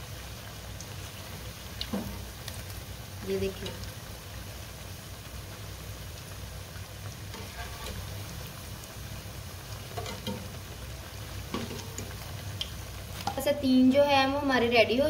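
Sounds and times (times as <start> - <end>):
deep-frying sizzle: 0.0 - 15.0.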